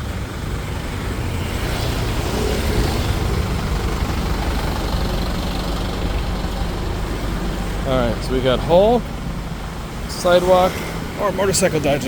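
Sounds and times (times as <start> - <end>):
traffic engines humming: 0.0 - 12.0
tyres hissing on wet road: 0.1 - 12.0.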